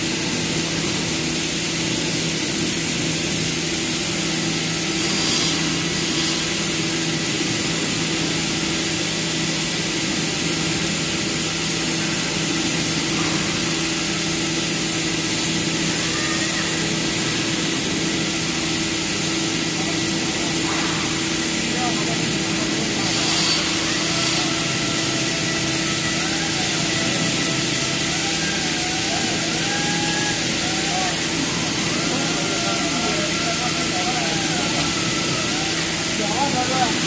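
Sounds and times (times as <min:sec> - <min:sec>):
woodworking machine humming: 0:00.0 - 0:37.0.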